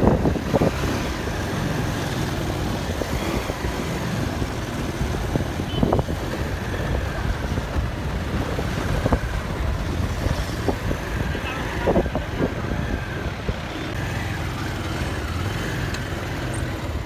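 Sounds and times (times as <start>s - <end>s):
wind buffeting microphone: 0.0s - 14.0s
motorcycle engine running: 0.0s - 17.0s.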